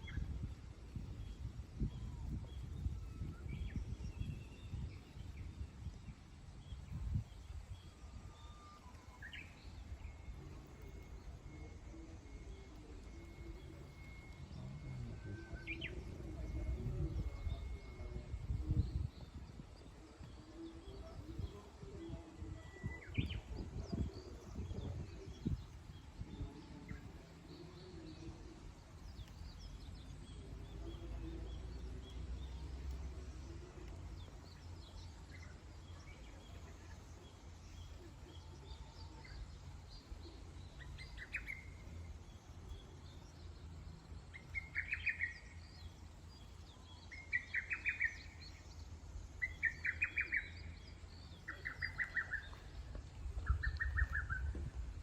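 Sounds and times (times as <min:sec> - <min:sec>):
low rumbling background noise: 0:00.0 - 0:55.0
wild birds chirping: 0:00.0 - 0:55.0.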